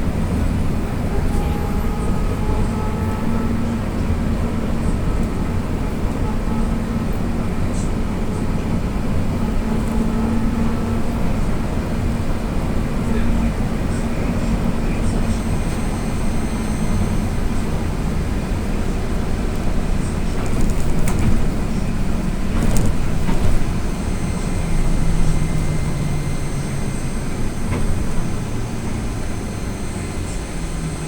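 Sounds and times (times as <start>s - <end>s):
trolleybus running and road noise: 0.0s - 31.0s.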